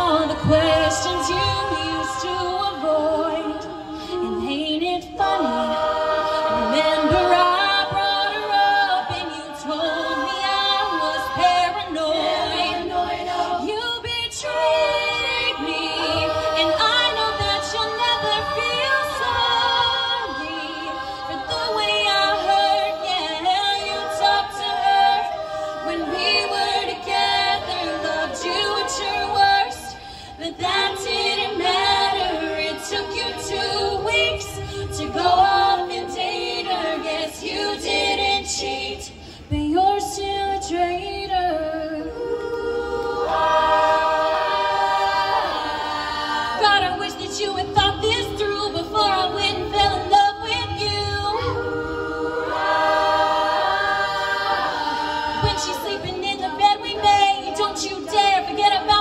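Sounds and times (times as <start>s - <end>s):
woman singing lead: 0.0s - 59.0s
women singing harmony: 0.0s - 59.0s.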